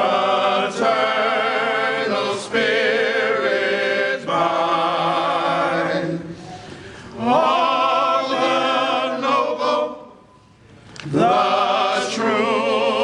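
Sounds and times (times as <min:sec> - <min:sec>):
men singing a cappella: 0:00.0 - 0:06.4, 0:07.2 - 0:10.2, 0:11.1 - 0:13.0.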